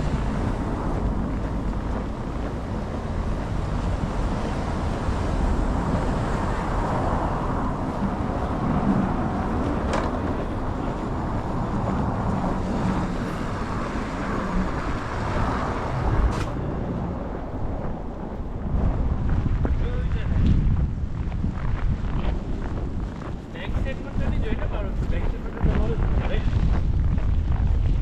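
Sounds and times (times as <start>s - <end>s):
city street traffic: 0.0s - 28.0s
wind rumbling on microphone: 0.0s - 28.0s.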